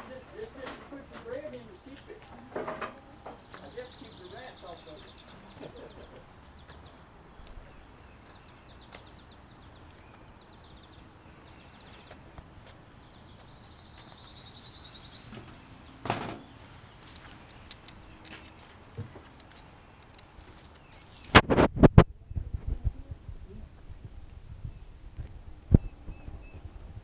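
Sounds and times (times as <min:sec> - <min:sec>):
small birds chirping: 0:00.0 - 0:21.4, 0:25.7 - 0:27.0.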